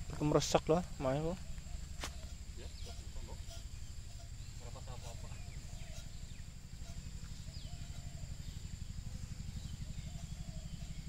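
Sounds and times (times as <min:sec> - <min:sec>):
high insect drone: 0:00.0 - 0:11.0
bird chirps: 0:01.0 - 0:11.0.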